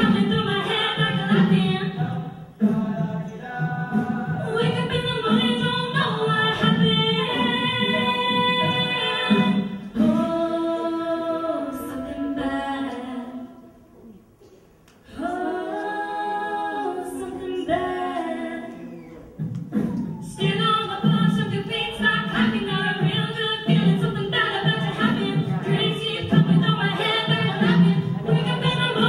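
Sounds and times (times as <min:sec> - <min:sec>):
a cappella group singing: 0:00.0 - 0:14.1, 0:15.0 - 0:29.0
vocal percussion: 0:00.0 - 0:29.0.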